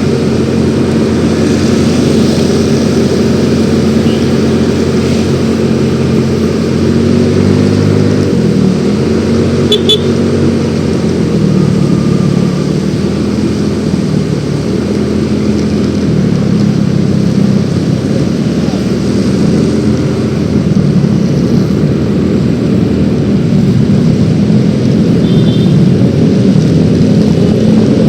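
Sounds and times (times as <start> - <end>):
scooter engine running: 0.0 - 28.0.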